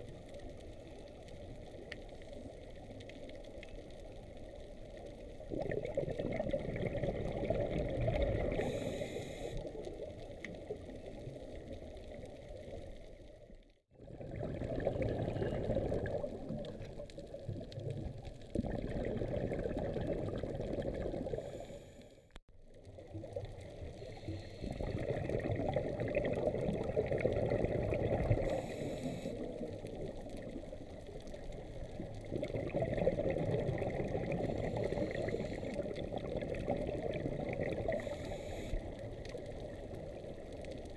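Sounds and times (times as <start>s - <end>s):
underwater water rushing and bubbling: 0.0s - 40.9s.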